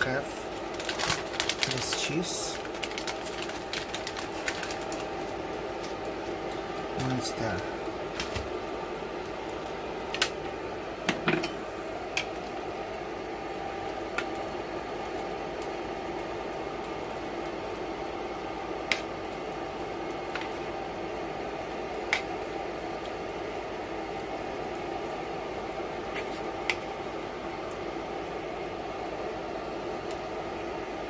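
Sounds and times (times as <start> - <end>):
low hiss from pan and burner: 0.0 - 31.0.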